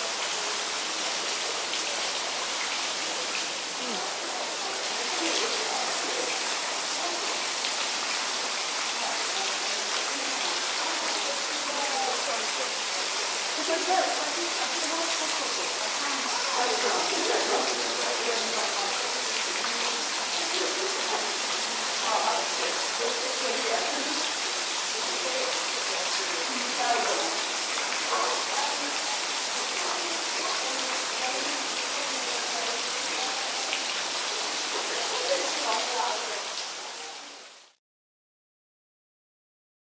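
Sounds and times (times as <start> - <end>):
fountain water splashing: 0.0 - 37.8.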